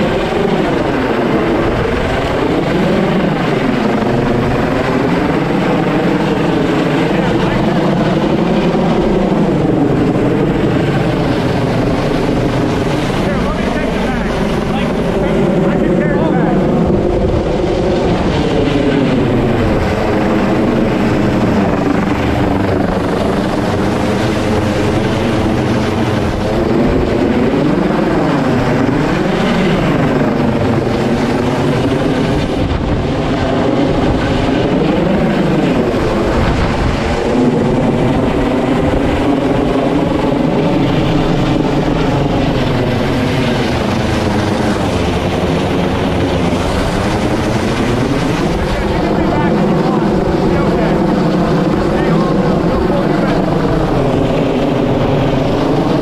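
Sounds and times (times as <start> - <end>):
helicopter hovering overhead: 0.0 - 56.0.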